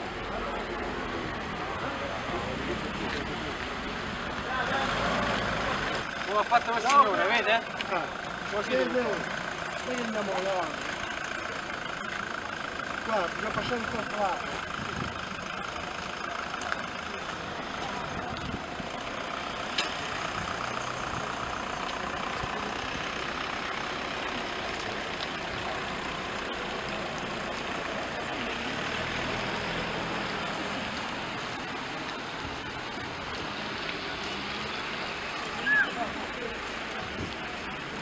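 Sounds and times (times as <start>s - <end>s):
street noise: 0.0s - 38.0s
vehicle engine running: 0.0s - 38.0s.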